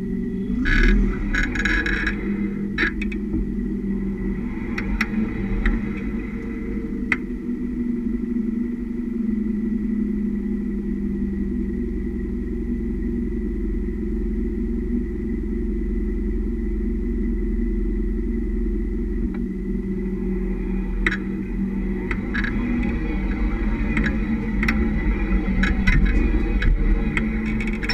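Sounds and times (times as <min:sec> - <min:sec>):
van driving road rumble: 0:00.0 - 0:27.9.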